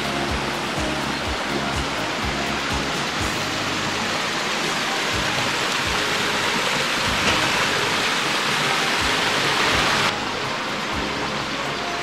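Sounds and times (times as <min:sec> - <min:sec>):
small waterfall splashing: 0:00.0 - 0:12.0.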